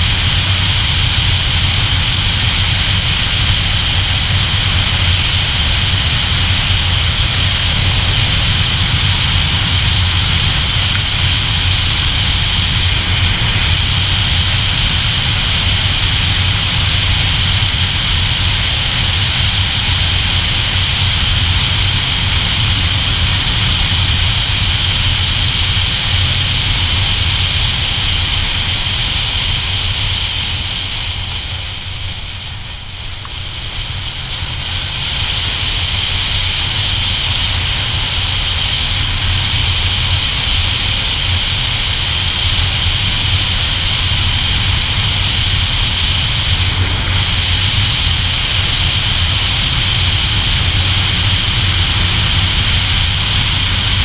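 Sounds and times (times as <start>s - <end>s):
motorcycle engine drone: 0.0s - 54.0s
wind rush over microphone: 0.0s - 54.0s.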